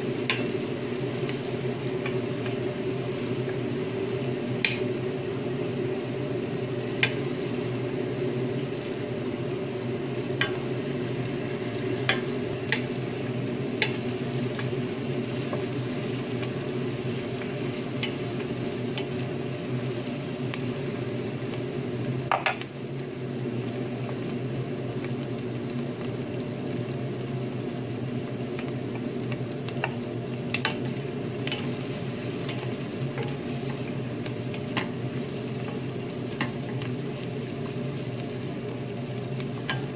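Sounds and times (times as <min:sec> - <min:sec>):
onions sizzling in a pot: 0:00.0 - 0:39.9.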